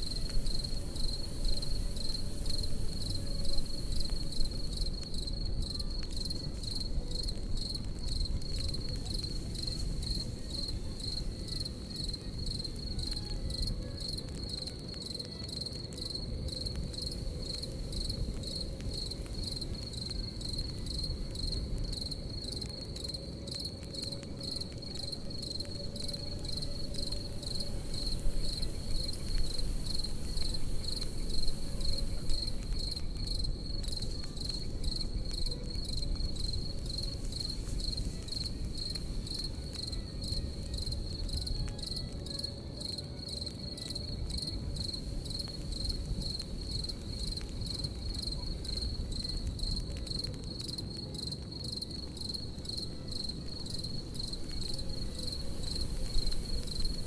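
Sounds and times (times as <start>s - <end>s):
fire pops: 0.0s - 42.6s, 43.4s - 57.0s
campfire crackling: 0.0s - 57.0s
crickets chirping: 0.0s - 57.0s.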